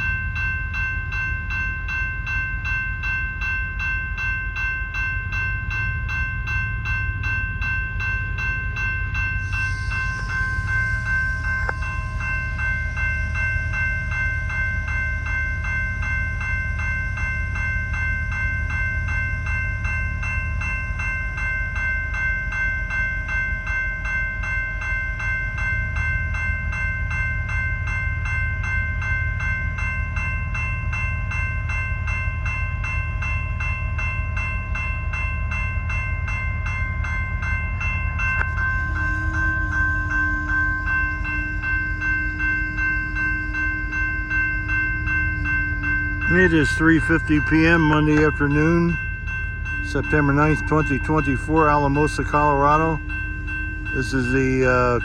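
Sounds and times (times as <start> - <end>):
diesel locomotive rumble: 0.0 - 55.0
railroad bell ringing: 0.0 - 55.0.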